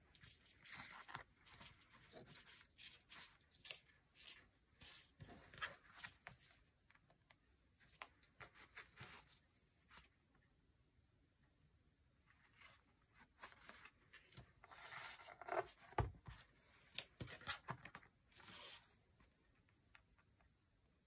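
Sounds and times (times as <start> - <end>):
hands rustling thread and book: 0.0 - 10.5, 12.3 - 20.4.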